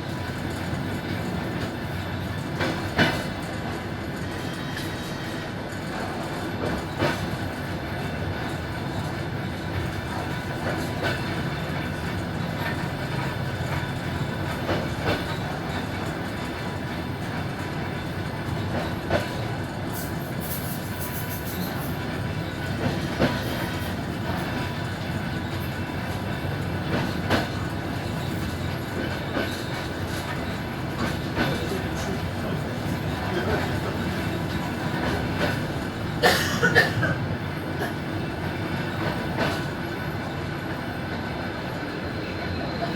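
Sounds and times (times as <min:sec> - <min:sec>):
train wheels rumbling on rail: 0:00.0 - 0:42.9
wheels clacking over rail joints: 0:00.2 - 0:40.2.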